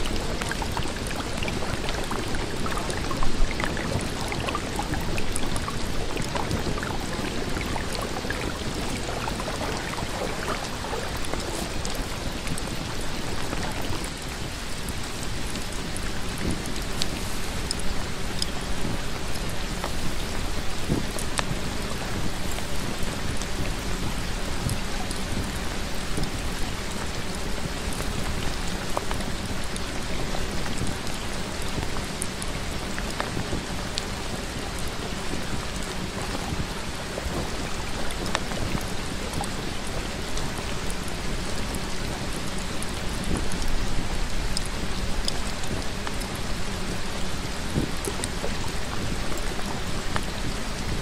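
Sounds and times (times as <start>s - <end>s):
raindrop ticks: 0.0s - 51.0s
steady rain: 0.0s - 51.0s.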